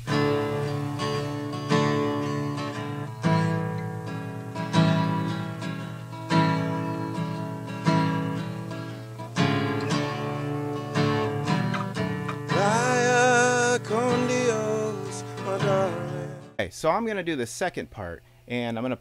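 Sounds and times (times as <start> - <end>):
acoustic guitar strumming chords: 0.0 - 16.6.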